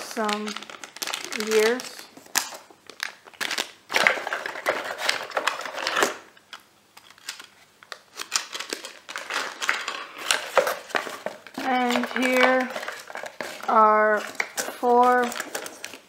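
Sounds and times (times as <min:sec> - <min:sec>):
plastic bags rustling: 0:00.0 - 0:06.3, 0:07.0 - 0:16.0.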